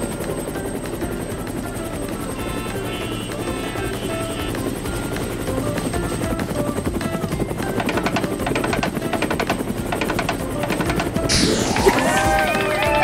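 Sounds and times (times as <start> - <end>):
background music with melody: 0.0 - 13.0
cartoon helicopter rotor chopping: 0.0 - 13.0.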